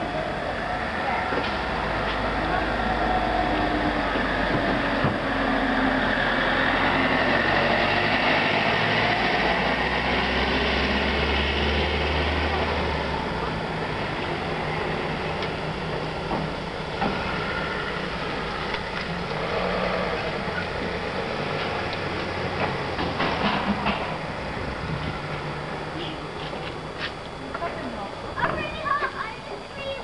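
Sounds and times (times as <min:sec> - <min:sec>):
passing vehicles rumble: 0:00.0 - 0:28.8
heavy low engine rumble: 0:00.0 - 0:30.0.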